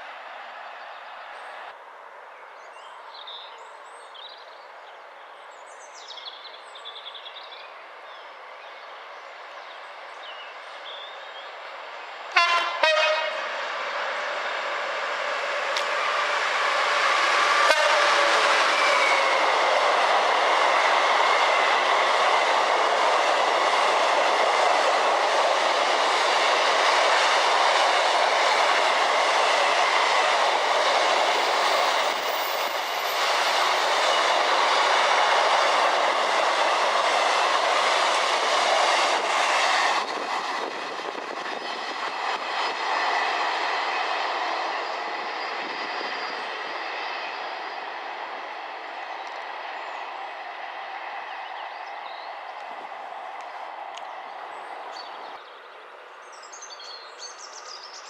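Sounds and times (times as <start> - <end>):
train wheels rushing on rails: 5.5 - 58.0.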